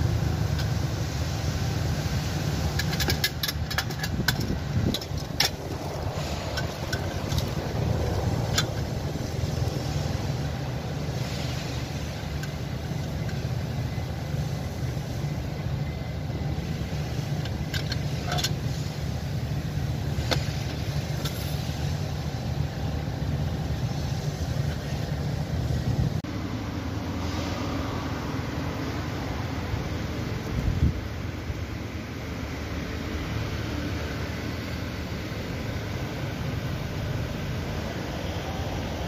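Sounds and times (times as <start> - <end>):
low mechanical drone: 0.0 - 39.0.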